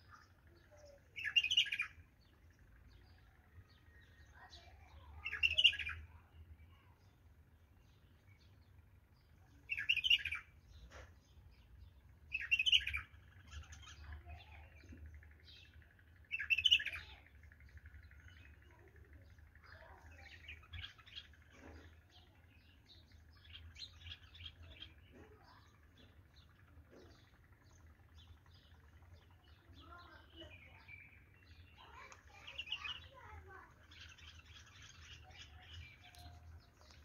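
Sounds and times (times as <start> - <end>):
faint bird chirps: 0.0 - 37.0.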